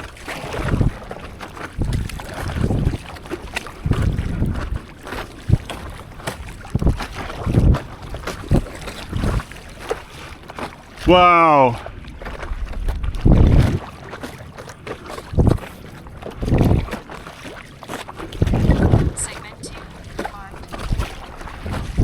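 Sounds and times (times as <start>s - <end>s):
wind buffeting microphone: 0.0s - 10.1s, 10.9s - 17.4s, 18.1s - 22.0s
water splashing from paddling: 0.0s - 22.0s.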